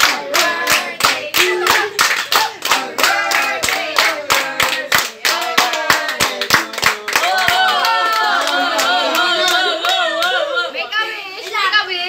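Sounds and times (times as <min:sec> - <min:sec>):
people clapping in time: 0:00.0 - 0:10.5
voices singing along: 0:00.0 - 0:11.1.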